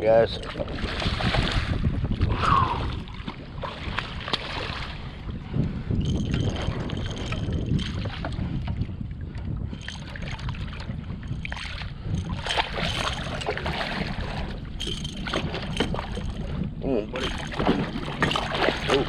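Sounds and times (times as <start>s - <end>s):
water sloshing against kayak: 0.0s - 19.0s
wind rumble on microphone: 0.0s - 19.0s.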